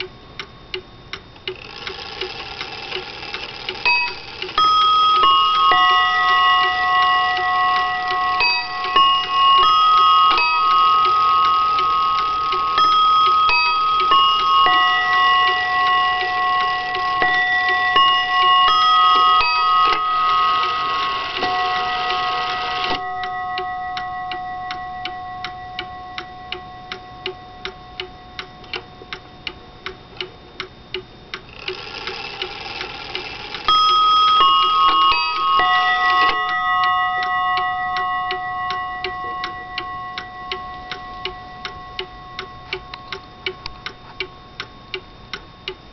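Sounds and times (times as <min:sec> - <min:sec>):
clock ticking: 0:00.0 - 0:45.9
mantel clock chiming: 0:01.5 - 0:45.9.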